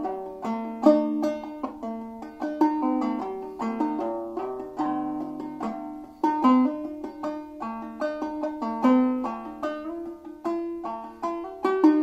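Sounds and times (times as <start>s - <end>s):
banjo melody plucked: 0.0s - 12.0s.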